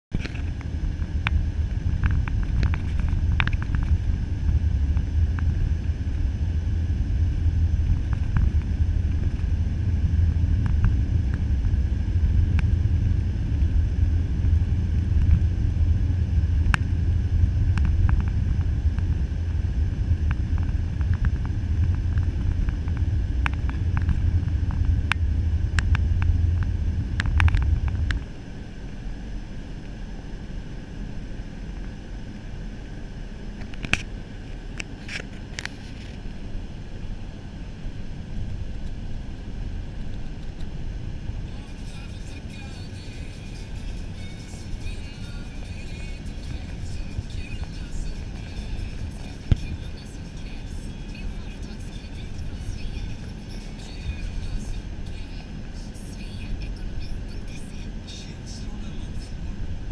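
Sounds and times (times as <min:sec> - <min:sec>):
car road rumble: 0:00.1 - 0:59.9.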